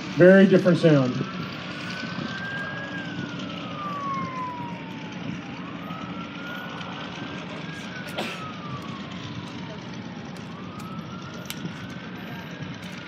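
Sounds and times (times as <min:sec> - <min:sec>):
radial aircraft engine drone: 0:00.0 - 0:13.0
siren wailing: 0:00.0 - 0:13.0.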